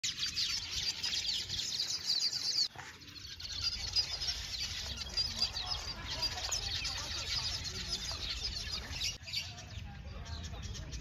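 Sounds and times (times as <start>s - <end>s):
birds chirping chorus: 0.0s - 11.0s.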